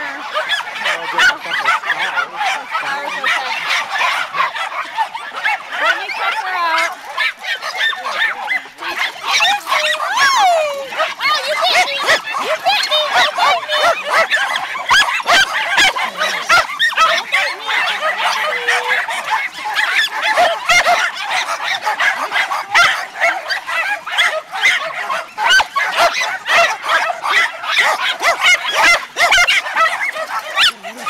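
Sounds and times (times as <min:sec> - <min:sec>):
many dogs barking: 0:00.0 - 0:31.0.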